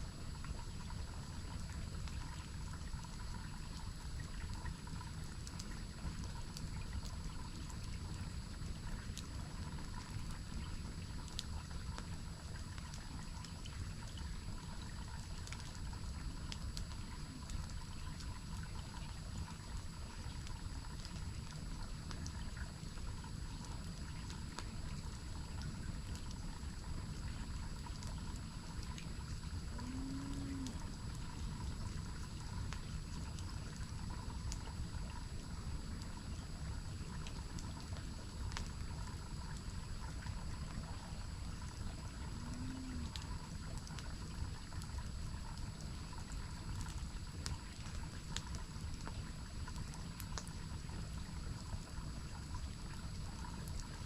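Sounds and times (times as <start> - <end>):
campfire crackling: 0.3 - 54.0.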